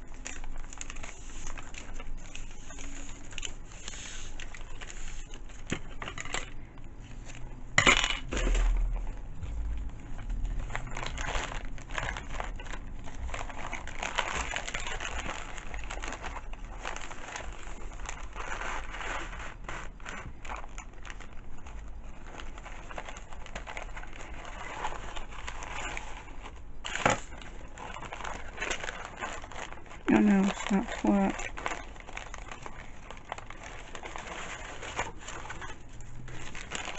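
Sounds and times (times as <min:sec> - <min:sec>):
paper rustling and crinkling: 0:00.0 - 0:36.9.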